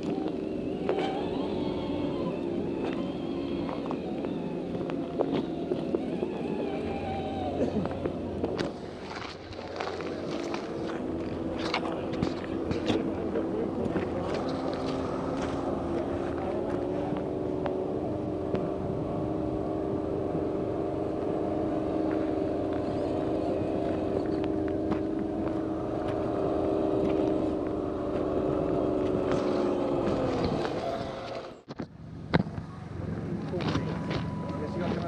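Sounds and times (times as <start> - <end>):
electric motor and gearbox whining: 0.0 - 35.0.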